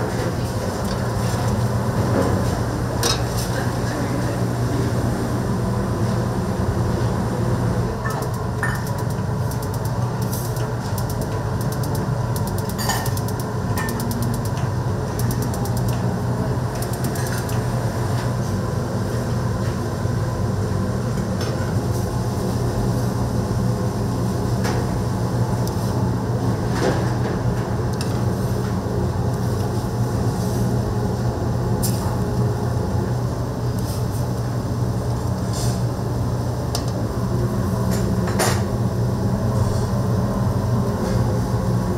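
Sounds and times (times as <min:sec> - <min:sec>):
low hum of kitchen equipment: 0:00.0 - 0:41.9.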